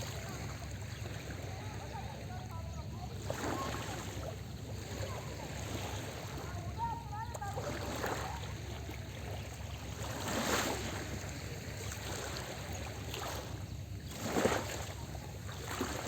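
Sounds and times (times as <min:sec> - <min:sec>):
small waves washing on shore: 0:00.0 - 0:16.0.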